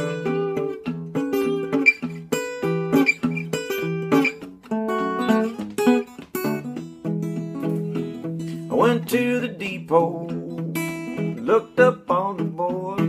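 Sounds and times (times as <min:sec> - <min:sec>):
fingerpicked acoustic guitar: 0:00.0 - 0:13.0.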